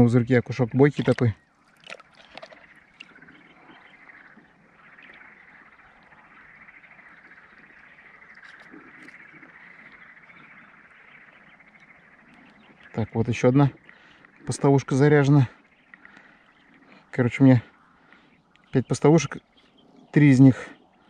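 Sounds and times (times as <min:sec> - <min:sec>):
chorus of calling animals: 0:00.0 - 0:21.0.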